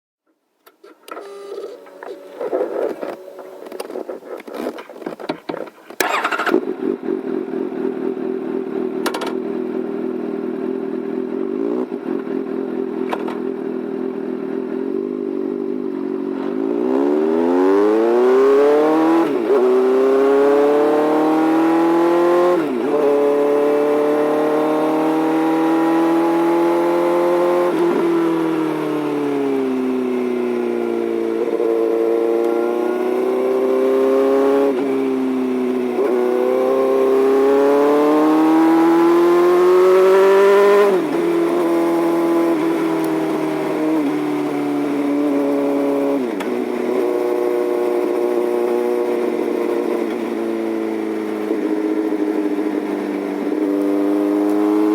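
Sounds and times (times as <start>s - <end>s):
motorcycle engine accelerating: 1.0s - 54.9s.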